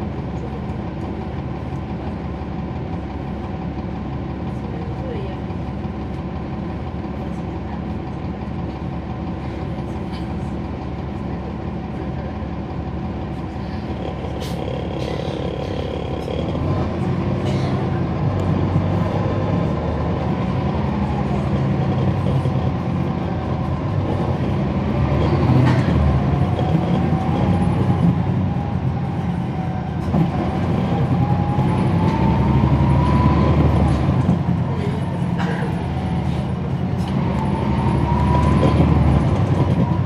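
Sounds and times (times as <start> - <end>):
bus diesel engine under load: 0.0 - 40.0.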